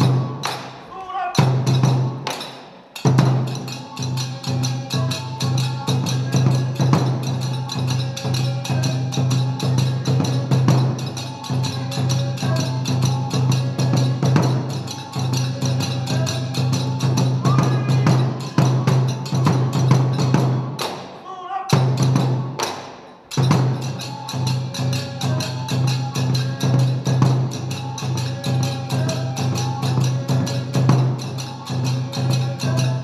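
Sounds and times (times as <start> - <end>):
drum and hand cymbals beating: 0.0 - 33.0
flute melody: 3.5 - 20.8, 23.8 - 33.0.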